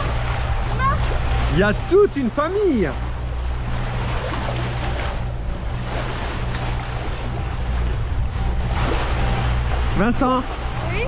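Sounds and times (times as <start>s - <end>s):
steady low rumble: 0.0s - 11.0s
water rushing along hulls: 0.0s - 11.0s.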